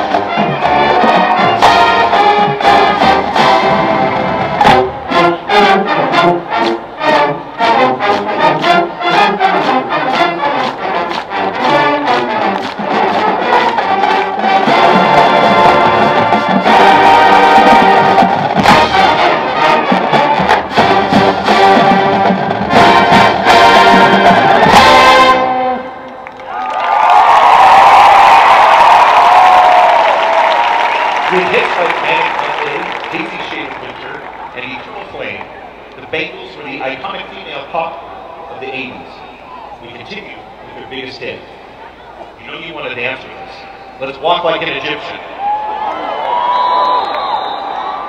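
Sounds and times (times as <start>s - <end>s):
marching band brass and percussion: 0.0s - 26.3s, 27.4s - 45.2s.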